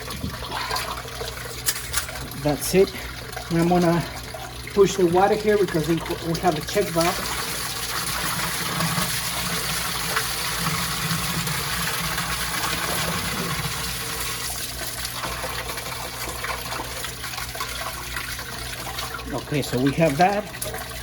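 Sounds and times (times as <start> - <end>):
low steady hum: 0.0 - 21.0
water rushing in a pit: 0.0 - 21.0.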